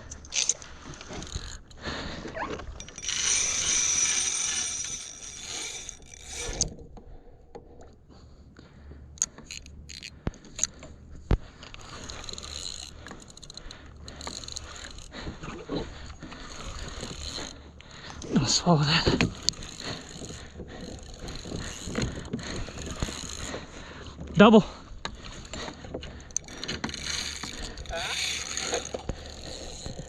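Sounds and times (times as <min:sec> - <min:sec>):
fishing reel ratcheting: 0:00.0 - 0:01.8, 0:02.6 - 0:06.8, 0:09.2 - 0:10.8, 0:11.6 - 0:23.8, 0:25.2 - 0:30.0.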